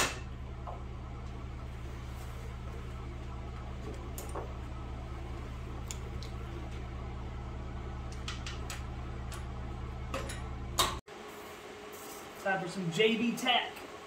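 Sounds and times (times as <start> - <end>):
low shop hum: 0.0 - 14.0.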